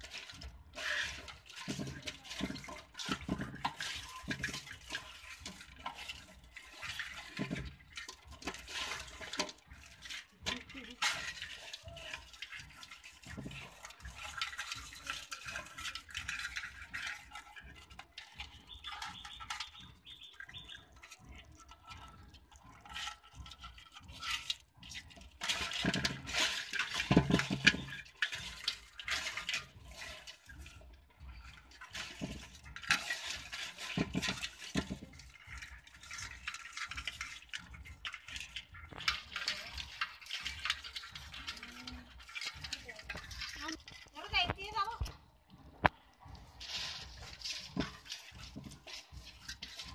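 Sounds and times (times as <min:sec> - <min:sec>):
crabs clicking and scraping: 0:00.0 - 0:49.9
water splashing and sloshing: 0:00.0 - 0:49.9.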